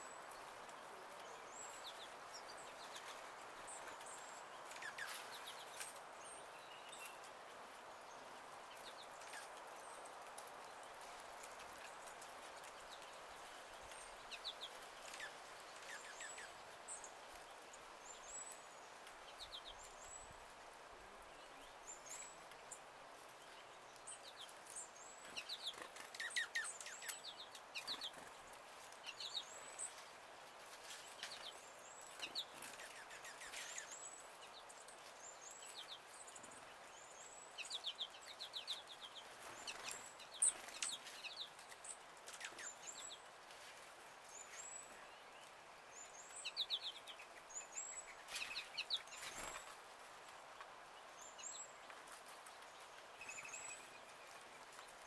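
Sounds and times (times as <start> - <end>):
songbirds chipping: 0.0 - 55.0.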